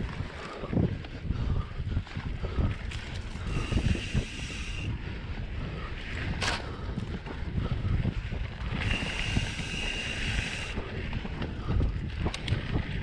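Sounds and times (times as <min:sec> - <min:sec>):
bike freehub ticking: 0:00.0 - 0:13.0
bike tyres on gravel: 0:00.0 - 0:13.0
wind buffeting microphone: 0:00.0 - 0:13.0.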